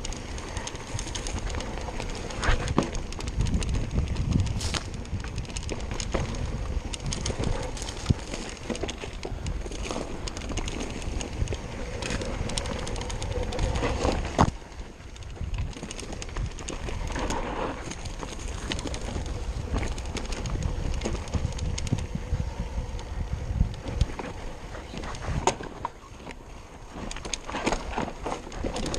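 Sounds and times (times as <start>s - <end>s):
bike clicks and rattles: 0.0s - 28.9s
tyres rolling over dirt and rocks: 0.0s - 28.9s
wind rumble on microphone: 0.0s - 28.9s.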